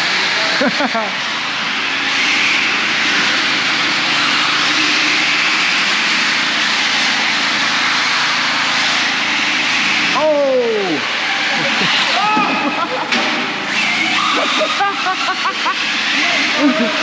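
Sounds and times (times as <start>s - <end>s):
radio-controlled cars racing: 0.0s - 17.0s.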